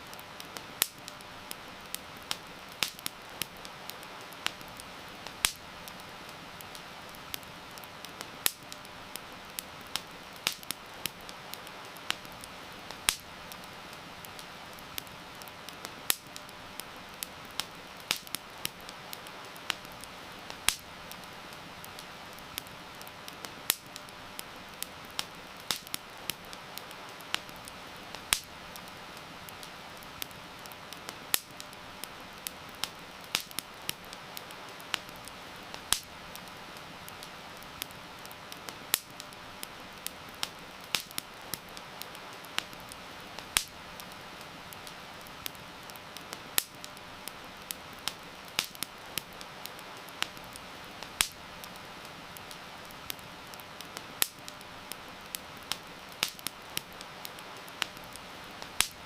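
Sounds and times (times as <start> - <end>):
rain hissing: 0.0 - 59.0
wood fire crackling and popping: 0.0 - 59.0.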